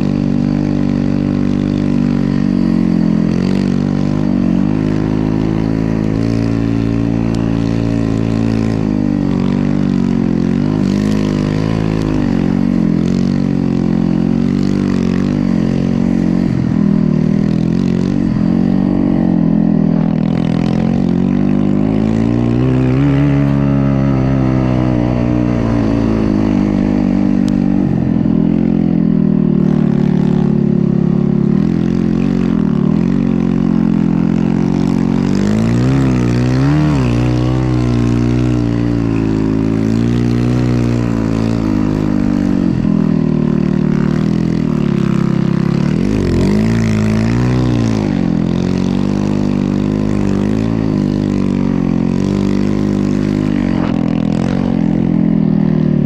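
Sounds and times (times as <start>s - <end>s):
snow bike engine revving: 0.0s - 56.0s.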